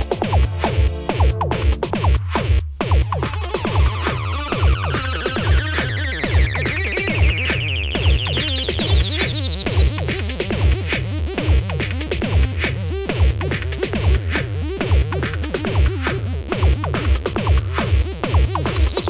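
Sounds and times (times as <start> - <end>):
techno kick drum: 0.0 - 19.0.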